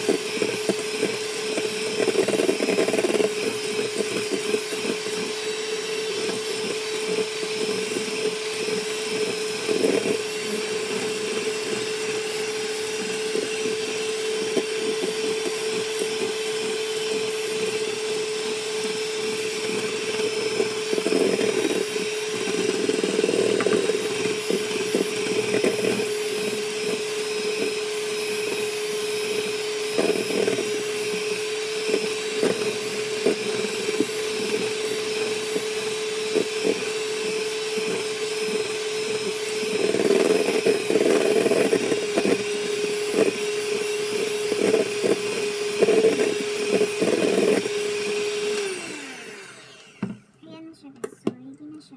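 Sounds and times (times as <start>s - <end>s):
electric hand mixer humming: 0.0s - 51.9s.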